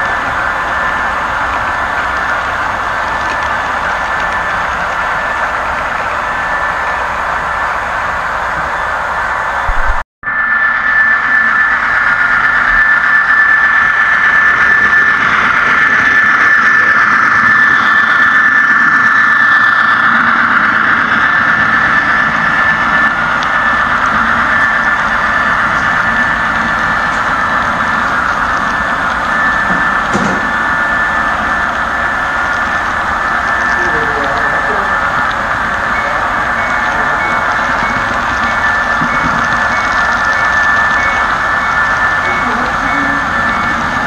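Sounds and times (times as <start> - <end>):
high-pitched whine: 0.0 - 44.0
model train wheels whirring on rails: 0.0 - 44.0.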